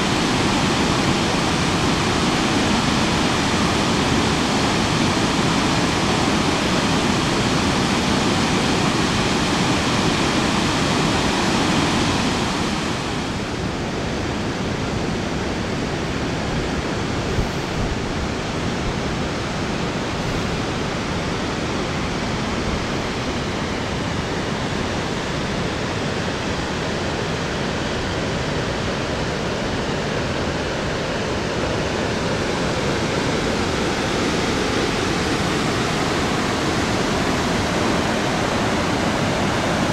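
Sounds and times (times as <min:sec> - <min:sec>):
rushing white water: 0:00.0 - 0:39.9.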